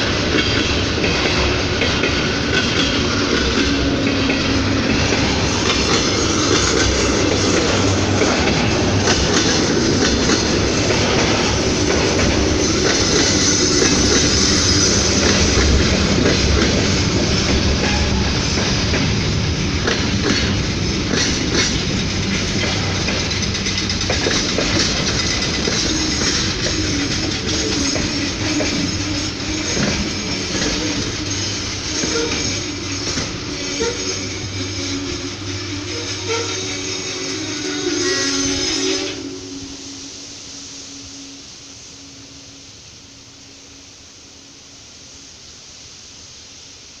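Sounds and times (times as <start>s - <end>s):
train wheels clickety-clack: 0.0s - 39.4s.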